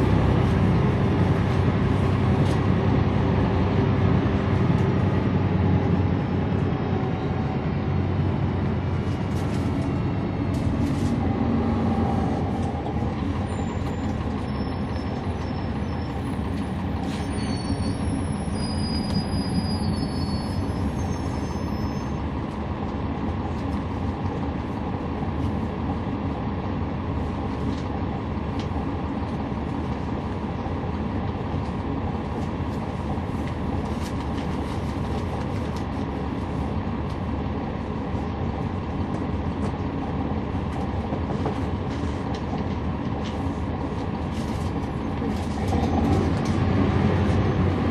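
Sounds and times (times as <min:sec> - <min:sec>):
bus diesel engine pulling: 0:00.0 - 0:47.9
road rumble: 0:00.0 - 0:47.9.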